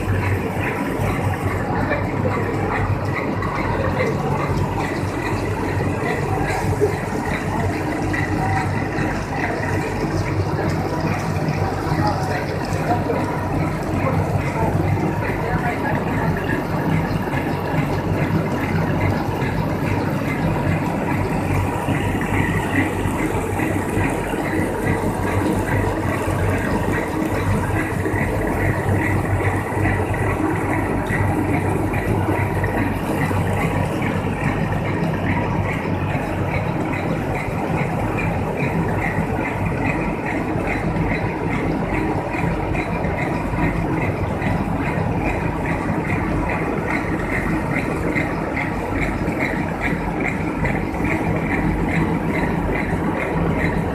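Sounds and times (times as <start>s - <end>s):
fast regular ticking: 0.0s - 53.9s
machine mechanical hum: 0.0s - 53.9s.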